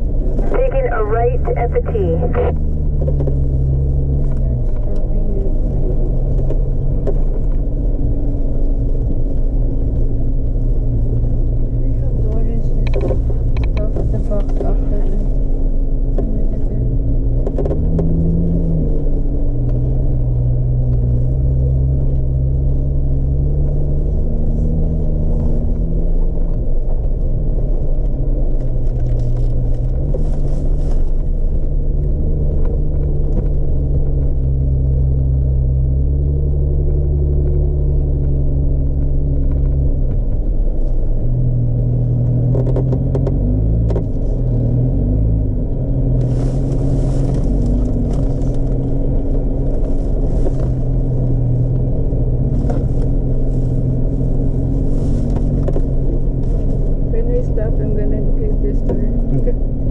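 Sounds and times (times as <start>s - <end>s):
car engine running low speed: 0.0s - 59.9s.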